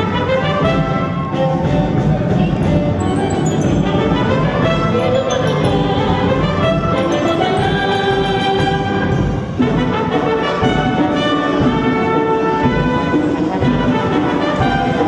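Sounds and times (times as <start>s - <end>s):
orchestra playing fast folk music: 0.0s - 15.0s.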